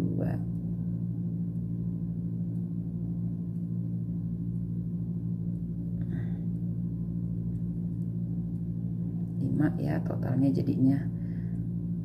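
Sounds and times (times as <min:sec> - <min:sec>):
low-pitched hum: 0:00.0 - 0:12.0.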